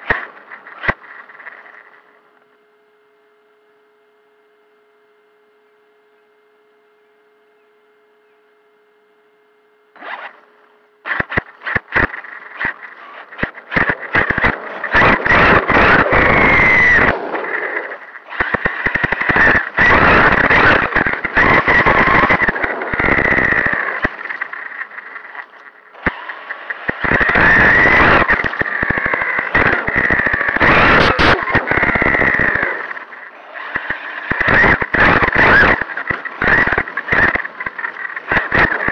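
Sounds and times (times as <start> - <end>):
faint electrical hum: 0.0 - 33.7
electric motor whine: 0.0 - 38.9.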